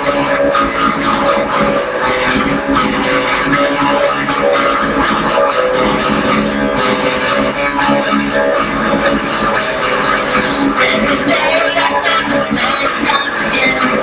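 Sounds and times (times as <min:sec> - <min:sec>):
guitar strumming chords: 0:00.0 - 0:14.0.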